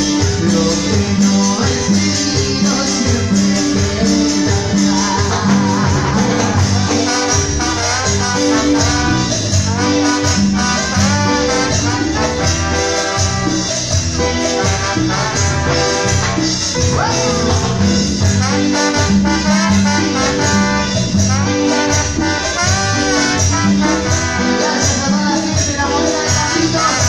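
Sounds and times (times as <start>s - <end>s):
live band playing dance music: 0.0s - 27.0s
trumpet: 0.0s - 27.0s.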